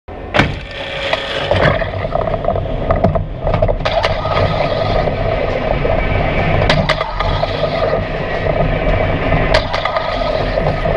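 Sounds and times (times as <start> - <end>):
roller coaster lift rumble and hum: 0.1 - 10.9.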